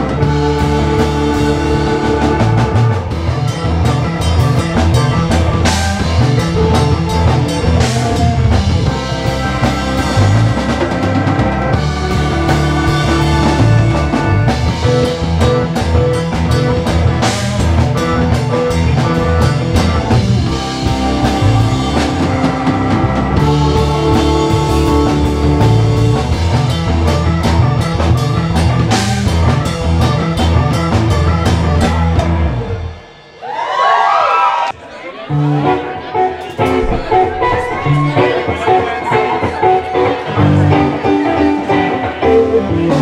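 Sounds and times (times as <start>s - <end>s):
electric guitar: 0.0s - 33.4s, 35.3s - 43.0s
keyboard: 0.0s - 34.1s, 34.7s - 43.0s
drum kit: 0.0s - 34.7s, 36.4s - 43.0s.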